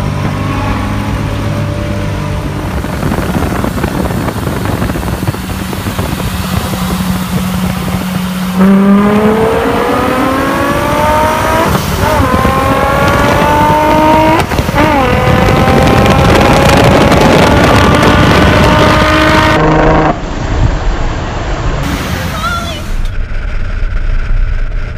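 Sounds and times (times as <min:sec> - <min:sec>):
car engine accelerating: 0:00.0 - 0:24.9.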